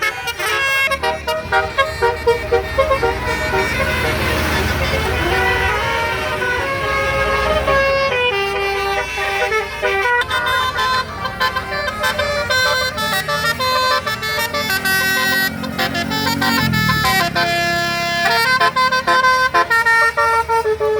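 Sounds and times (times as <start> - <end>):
musical air horn playing a tune: 0.0 - 20.9.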